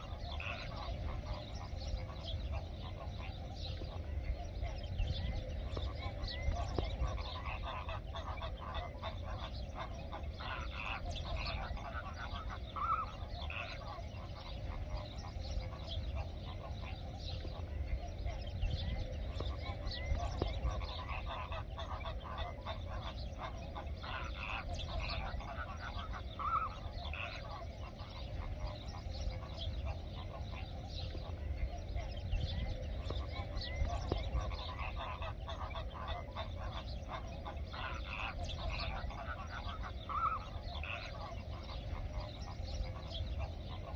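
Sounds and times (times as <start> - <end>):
flamingos honking: 0.0 - 43.9
steady low rumble: 0.0 - 43.9.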